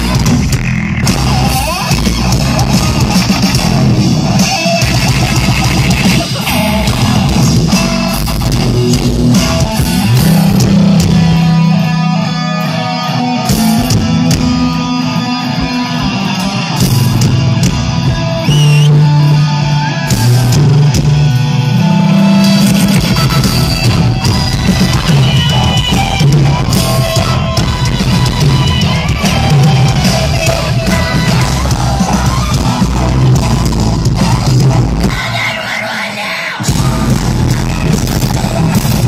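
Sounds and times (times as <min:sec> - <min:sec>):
loud distorted heavy rock: 0:00.0 - 0:39.0.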